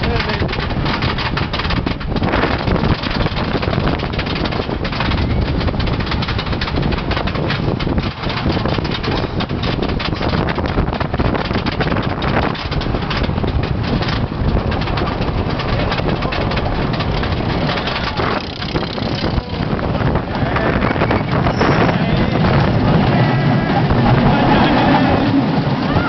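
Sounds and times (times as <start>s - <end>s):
roller coaster rattling on track: 0.0s - 26.0s
wind buffeting microphone: 0.0s - 26.0s.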